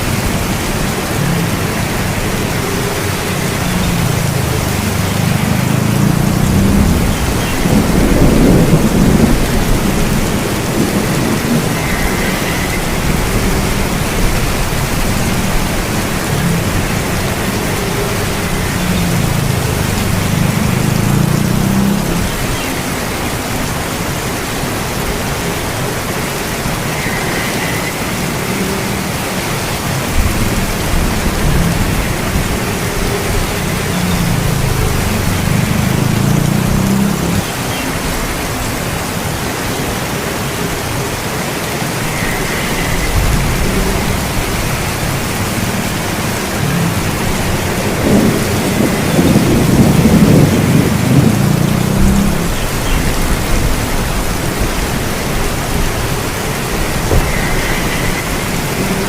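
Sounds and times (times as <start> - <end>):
thunder rumbling: 0.0 - 39.4, 41.8 - 59.0
heavy rain: 0.0 - 59.0.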